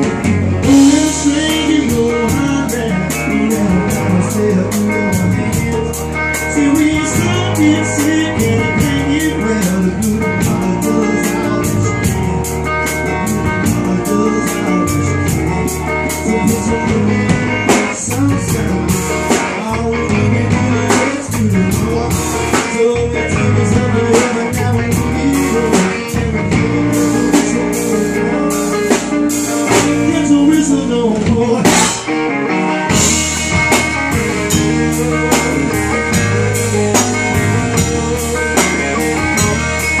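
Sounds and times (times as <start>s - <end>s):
drum kit steady beat: 0.0s - 40.0s
resonator guitar: 0.0s - 40.0s.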